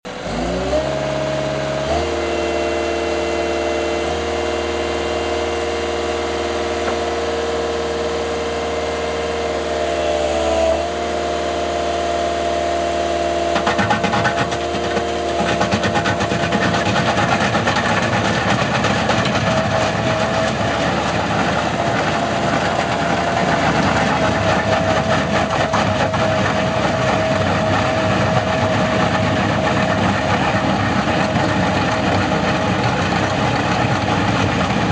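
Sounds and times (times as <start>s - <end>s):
loader engine running: 0.0s - 34.9s
milling drum grinding asphalt: 0.1s - 34.9s.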